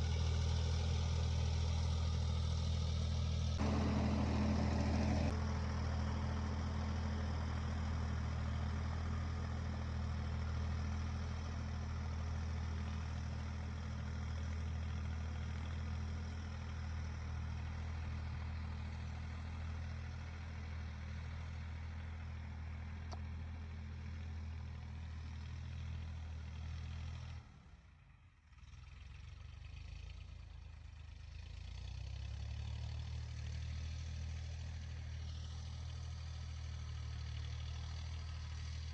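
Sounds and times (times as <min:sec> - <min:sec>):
tractor engine running: 0:00.0 - 0:27.6, 0:29.3 - 0:38.9.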